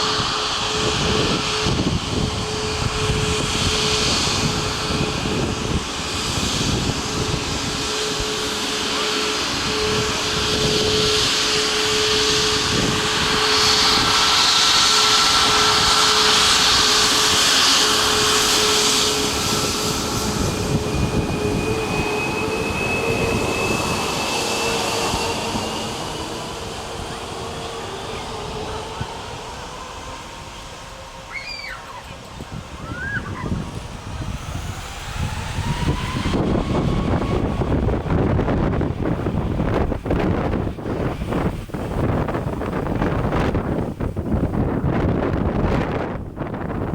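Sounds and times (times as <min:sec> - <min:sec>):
jet engines humming and hissing: 0:00.0 - 0:46.9
rising engine whine: 0:00.0 - 0:46.9.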